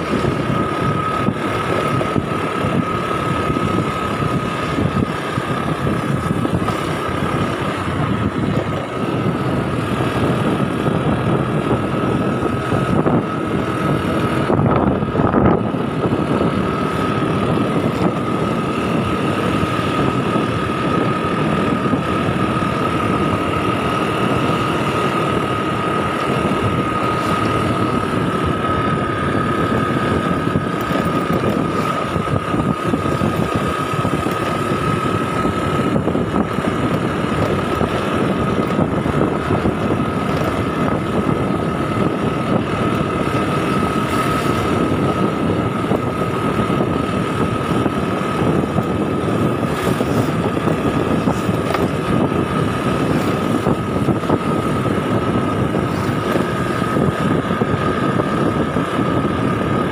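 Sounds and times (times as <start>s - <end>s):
scooter engine drone: 0.0s - 59.9s
steady high whine: 0.0s - 59.9s
wind noise on microphone: 0.0s - 59.9s.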